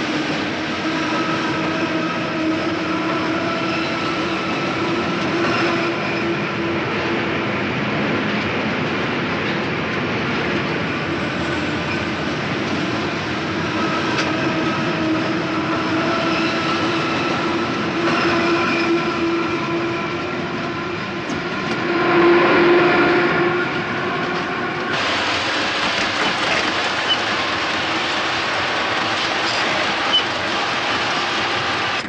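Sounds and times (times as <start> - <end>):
train rolling: 0.0 - 32.0.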